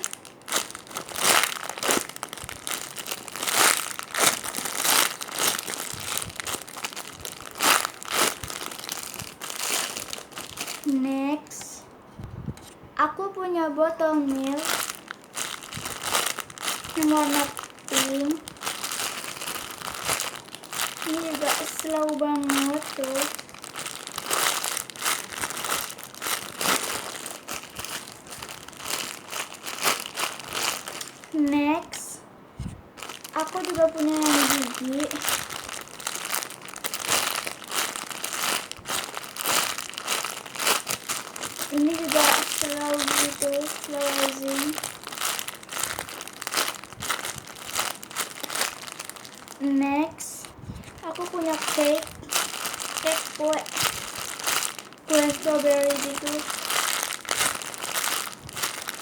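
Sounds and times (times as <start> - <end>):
foam toy crinkling and rustling: 0.0 - 11.8, 12.6 - 59.0.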